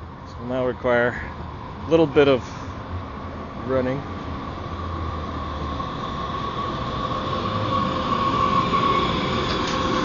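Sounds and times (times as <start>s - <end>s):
light-rail train whine and rumble: 0.0s - 10.0s.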